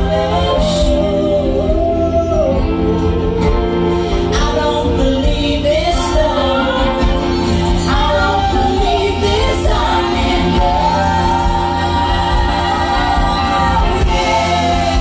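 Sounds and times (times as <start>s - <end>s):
low bass: 0.0s - 15.0s
voices singing in harmony: 0.0s - 15.0s.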